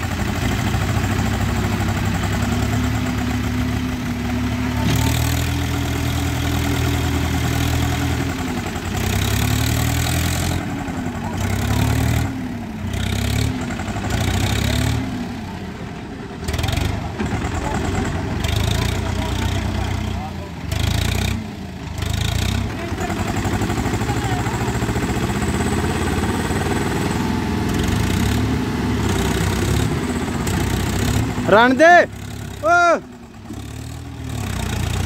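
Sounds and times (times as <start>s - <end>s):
tractor diesel engines under load: 0.0s - 35.0s.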